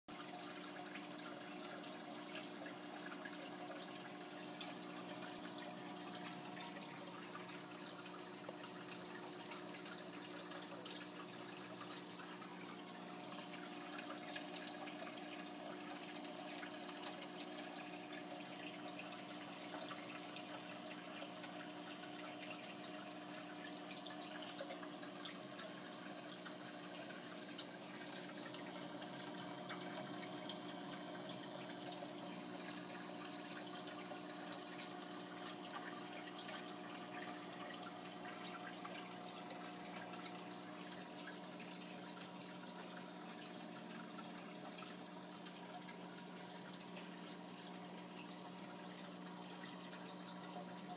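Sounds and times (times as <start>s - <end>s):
aquarium filter hum: 0.1s - 50.9s
small water drips: 0.1s - 50.9s
water trickling and splashing: 0.1s - 50.9s.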